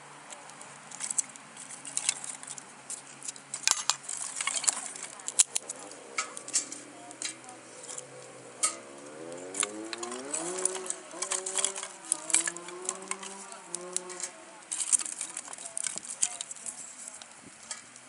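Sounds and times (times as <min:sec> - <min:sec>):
faint steady hiss: 0:00.0 - 0:18.0
metal utensils clinking and scraping: 0:00.5 - 0:18.0.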